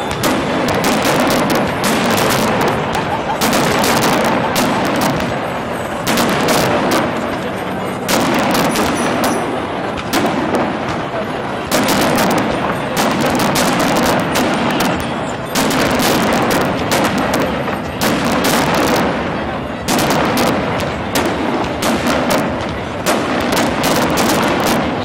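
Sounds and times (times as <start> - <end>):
continuous rumble: 0.0 - 25.0
fireworks bangs and crackles: 0.0 - 25.0.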